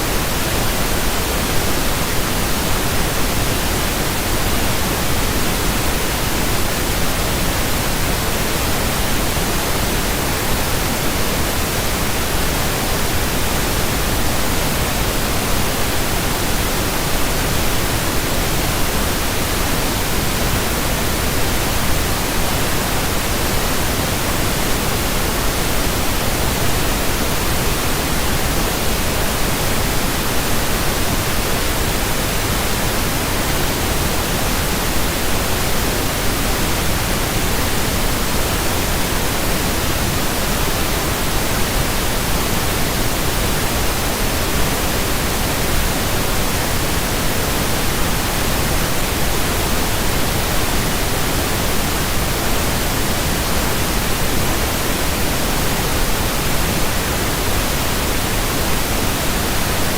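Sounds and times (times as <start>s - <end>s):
steady pink noise hiss: 0.0s - 59.9s.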